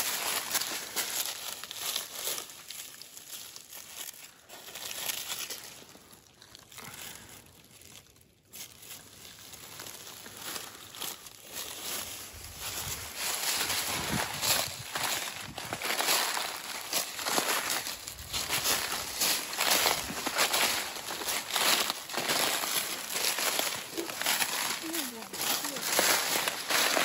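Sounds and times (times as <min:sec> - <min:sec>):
dry leaves rustling: 0:00.0 - 0:27.0
plastic bag crinkling: 0:00.0 - 0:27.0.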